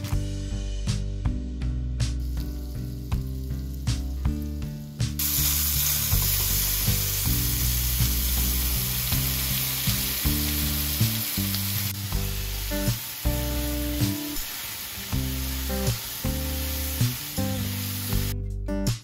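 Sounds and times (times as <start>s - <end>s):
soft background music: 0.0s - 19.0s
mushrooms sizzling in a pan: 2.1s - 18.4s.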